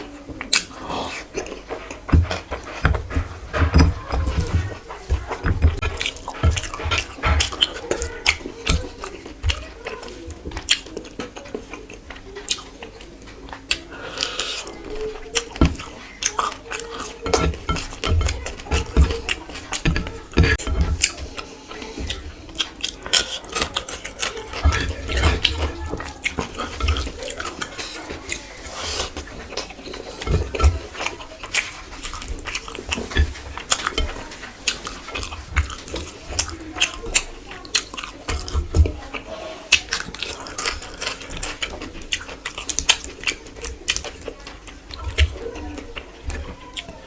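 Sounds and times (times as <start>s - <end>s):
wet chewing and mouth smacks: 0.4s - 46.9s.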